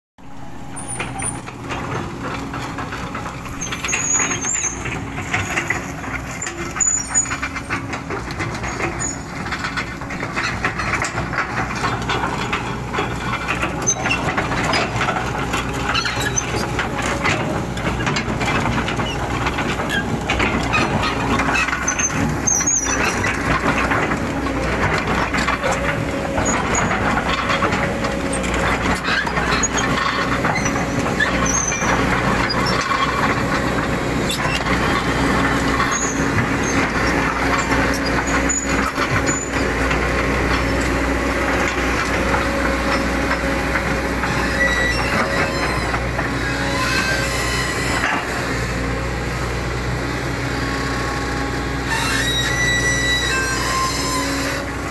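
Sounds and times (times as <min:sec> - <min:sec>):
excavator diesel engine: 0:00.2 - 0:54.9
machine clanks and knocks: 0:00.3 - 0:50.7.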